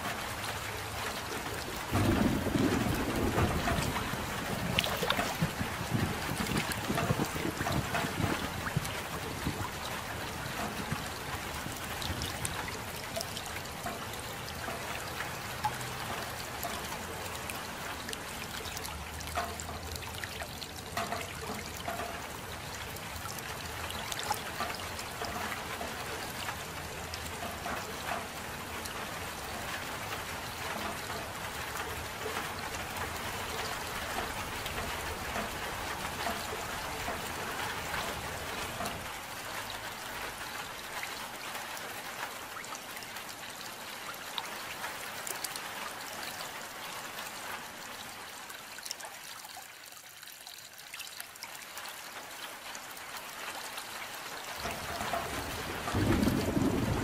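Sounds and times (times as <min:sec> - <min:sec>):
gentle rain falling: 0:00.0 - 0:57.0
trickle of running water: 0:00.0 - 0:57.0.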